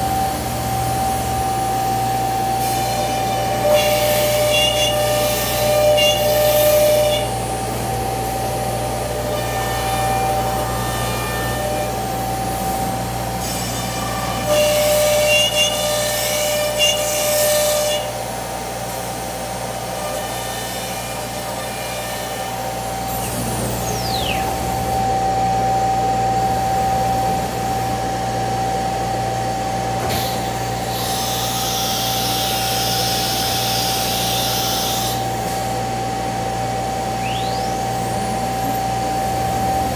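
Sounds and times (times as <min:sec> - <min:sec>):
cnc router spindle whine: 0:00.0 - 0:39.9
dust extraction hum: 0:00.0 - 0:39.9.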